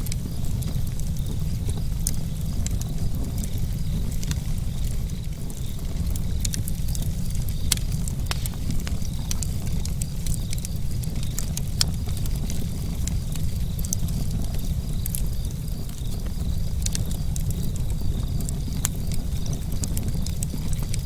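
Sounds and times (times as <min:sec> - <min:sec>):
campfire crackling and popping: 0:00.0 - 0:21.0
low fire rumble: 0:00.0 - 0:21.0.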